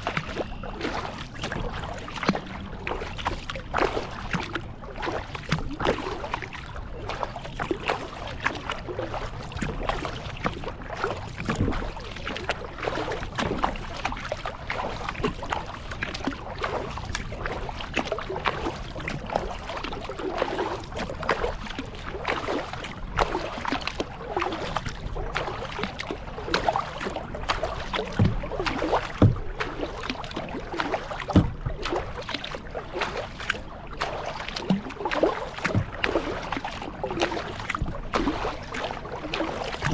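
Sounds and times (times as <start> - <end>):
paddle splashing in water: 0.0 - 39.9.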